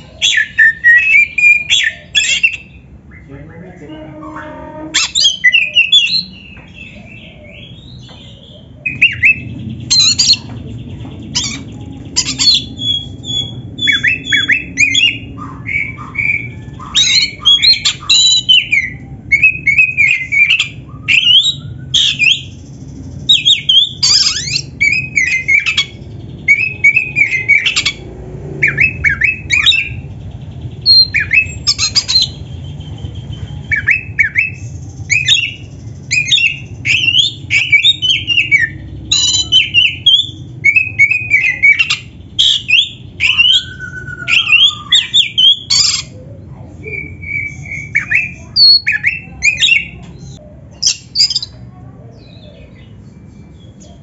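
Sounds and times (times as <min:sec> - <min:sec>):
bird singing whistles and chirps: 0:04.1 - 0:10.5, 0:11.3 - 0:28.0, 0:30.7 - 0:46.1, 0:46.8 - 0:51.6.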